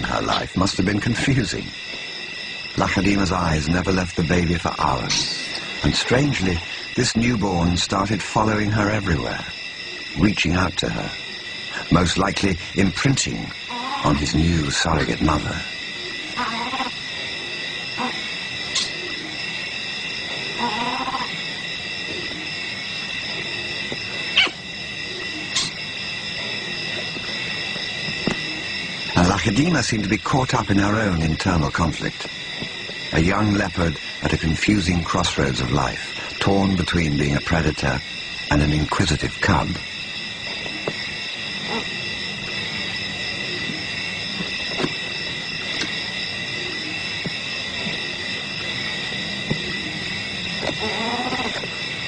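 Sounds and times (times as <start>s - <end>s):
night insects chorus: 0.0s - 52.0s
sharp high squeaks: 0.0s - 52.0s.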